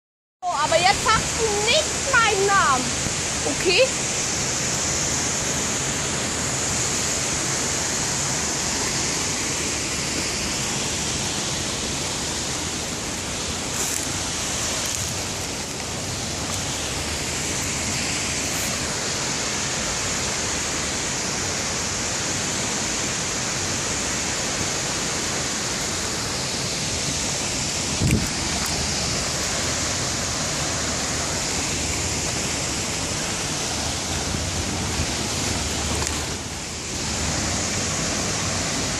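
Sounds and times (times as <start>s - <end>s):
water rushing over weir: 0.4s - 38.9s.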